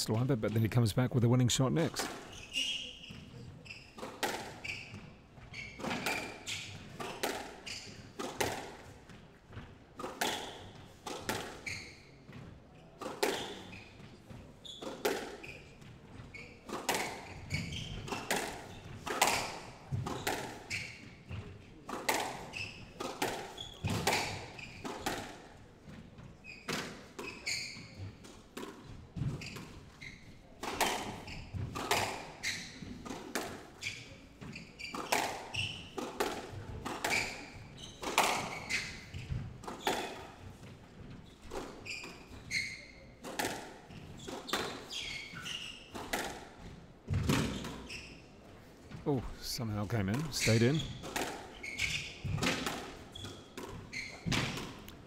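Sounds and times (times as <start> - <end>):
shoes squeaking on wooden floor: 0.1 - 55.0.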